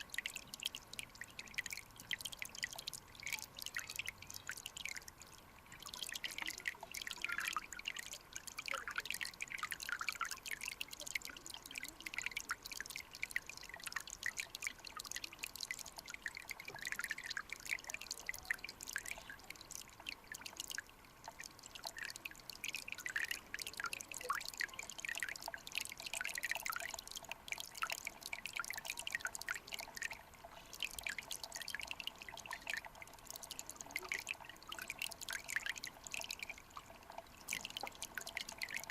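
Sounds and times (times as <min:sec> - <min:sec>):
water dripping: 0:00.0 - 0:38.9.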